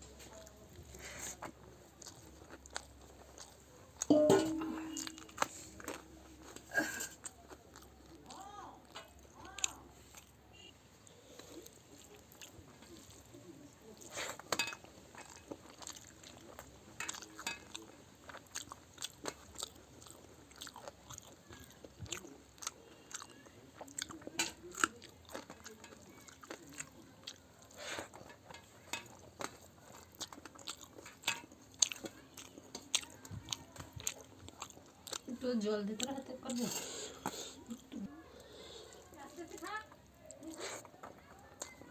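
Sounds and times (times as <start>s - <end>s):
food crunching: 0.1s - 41.9s
chewing with mouth smacks: 0.2s - 41.9s.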